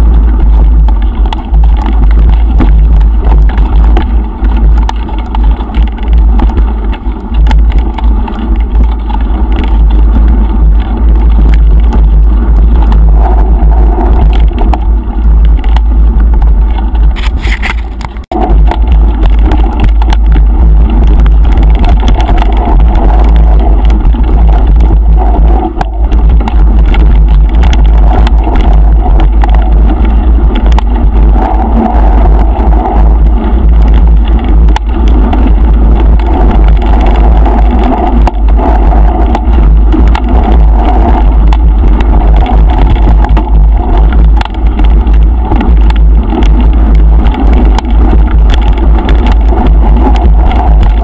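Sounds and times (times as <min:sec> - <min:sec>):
bike rattling over bumps: 0:00.0 - 0:51.0
wind buffeting microphone: 0:00.0 - 0:51.0.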